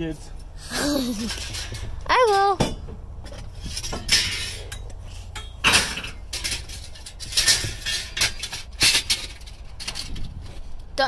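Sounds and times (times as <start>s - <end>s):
scrap metal clanking: 1.0s - 10.6s.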